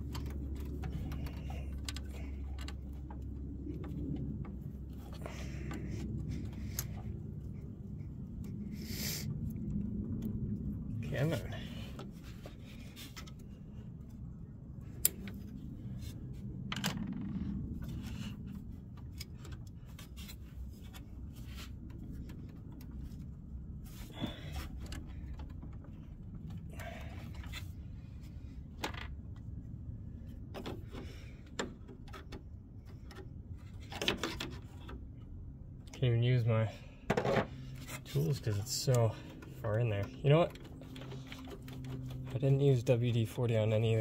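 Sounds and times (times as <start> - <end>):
clicks and scrapes of plastic hose: 0.0 - 8.7, 11.0 - 29.6, 30.2 - 36.0, 37.1 - 44.0
low steady hum: 0.0 - 44.0.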